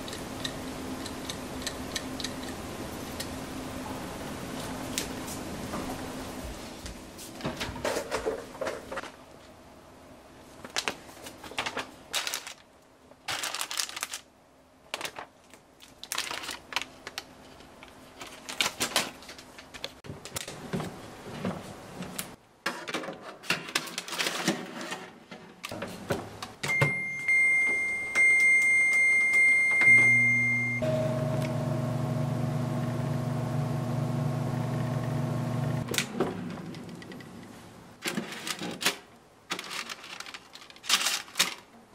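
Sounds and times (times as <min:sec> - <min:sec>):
fan and heater humming: 0:00.0 - 0:22.5, 0:25.4 - 0:39.1.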